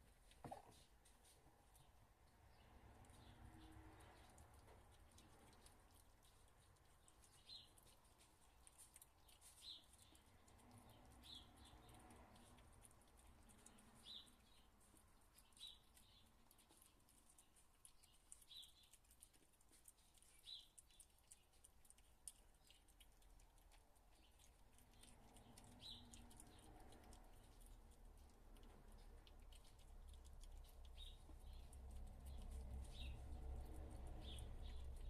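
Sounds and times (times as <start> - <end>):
small animal chirping: 3.1 - 35.0.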